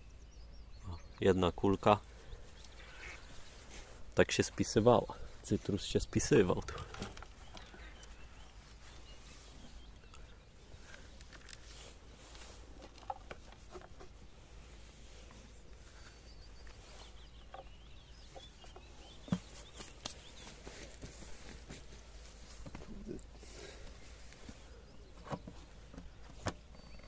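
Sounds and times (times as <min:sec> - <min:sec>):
distant bird chirps: 0:00.0 - 0:27.0.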